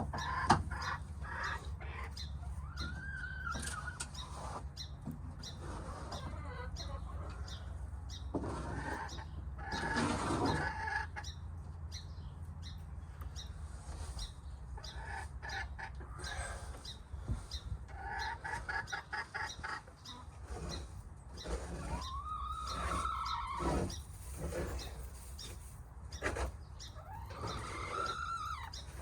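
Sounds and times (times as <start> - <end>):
hens clucking and calling: 0.0 - 11.7, 13.9 - 29.0.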